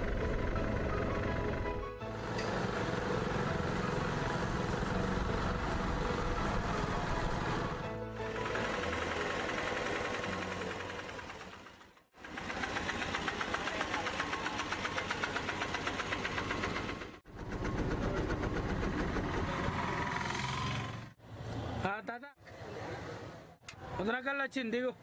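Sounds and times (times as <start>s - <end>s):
auto-rickshaw engine puttering: 0.0s - 21.2s.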